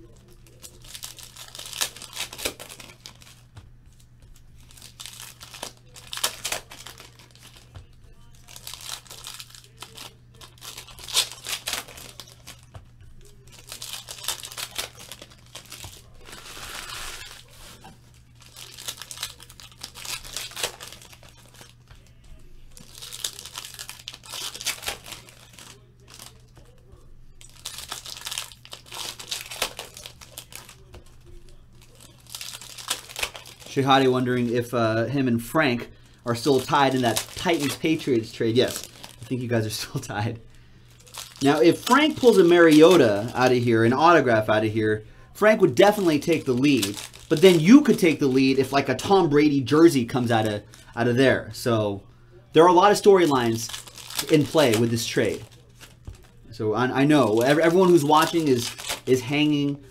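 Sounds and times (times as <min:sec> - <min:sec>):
foil wrappers tearing and crinkling: 0:00.0 - 0:04.0, 0:04.6 - 0:44.6, 0:45.4 - 0:51.0, 0:52.6 - 0:59.9.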